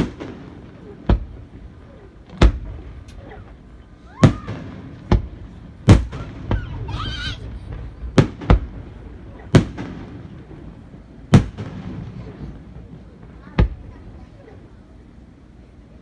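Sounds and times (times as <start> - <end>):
fireworks bangs with rumbling echo: 0.0 - 15.6.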